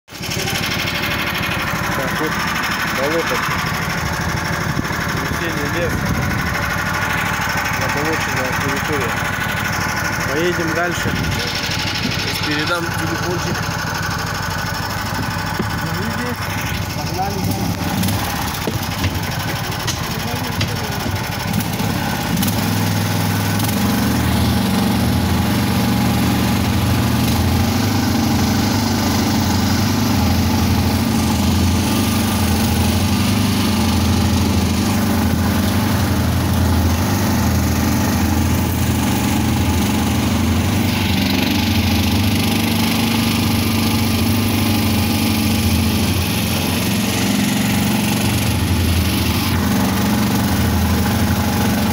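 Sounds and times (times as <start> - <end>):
small engine running under load: 0.1 - 51.9.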